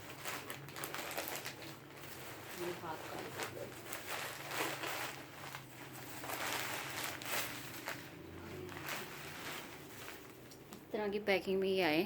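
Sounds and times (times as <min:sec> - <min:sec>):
packaging rustling and scraping: 0:00.0 - 0:10.7.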